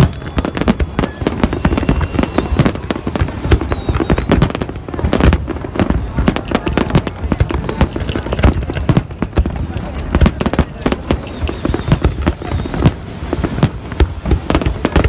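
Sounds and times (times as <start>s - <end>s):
fireworks bursting: 0.0s - 15.0s
fireworks crackling: 0.0s - 15.0s
low rumble of fireworks: 0.0s - 15.0s.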